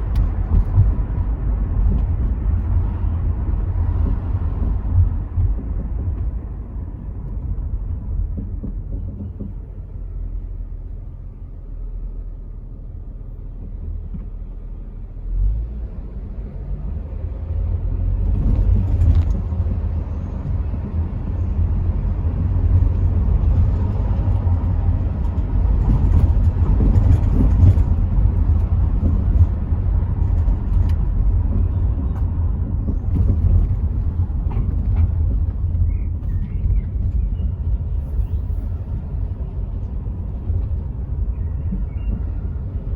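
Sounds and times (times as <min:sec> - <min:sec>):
car engine rumble: 0:00.0 - 0:42.9
road noise: 0:00.0 - 0:42.9.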